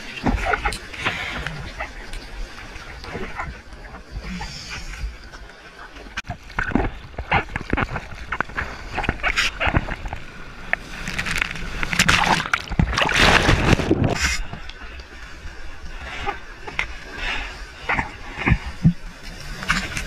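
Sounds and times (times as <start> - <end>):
seawater splashing and sloshing: 0.0 - 20.0.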